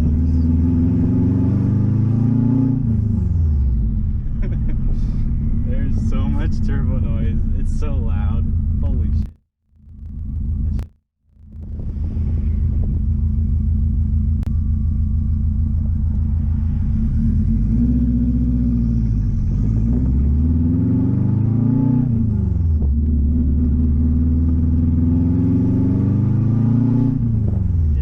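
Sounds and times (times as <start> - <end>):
loud raw exhaust drone: 0.0 - 28.0.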